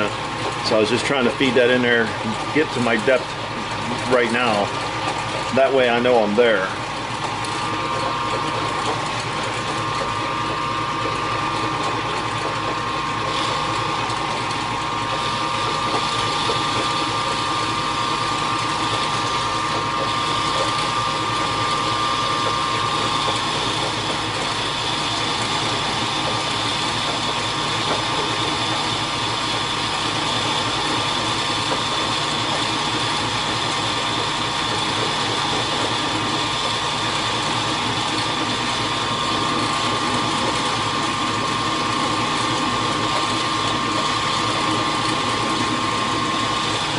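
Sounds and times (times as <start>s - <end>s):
machine tool motor whine: 0.0s - 46.9s.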